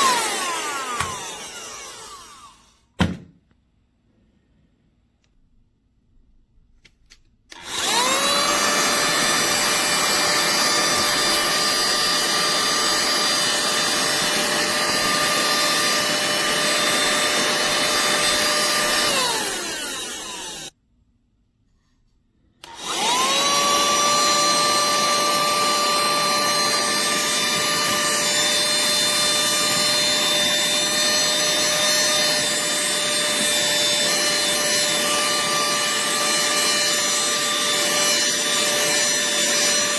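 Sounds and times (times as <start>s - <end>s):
handheld vacuum motor whine: 0.0s - 2.9s, 7.5s - 20.8s, 22.6s - 39.9s.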